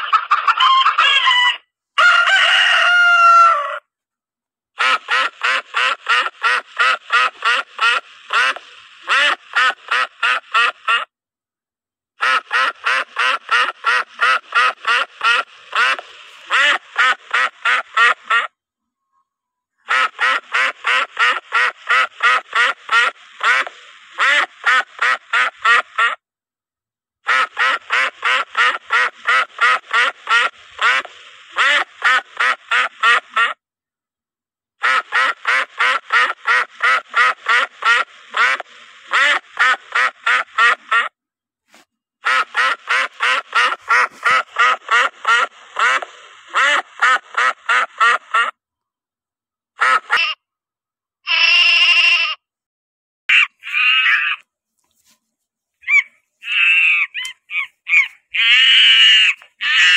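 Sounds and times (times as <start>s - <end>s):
duck quacking: 0.0s - 3.8s, 4.8s - 11.1s, 12.2s - 18.6s, 19.8s - 26.2s, 27.2s - 33.6s, 34.8s - 48.6s, 49.8s - 50.5s, 53.3s - 54.4s, 55.8s - 59.9s.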